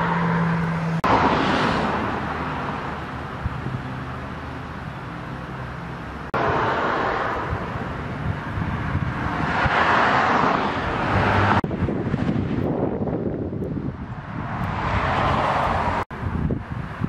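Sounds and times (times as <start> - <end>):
passing vehicles hissing: 0.0 - 17.0.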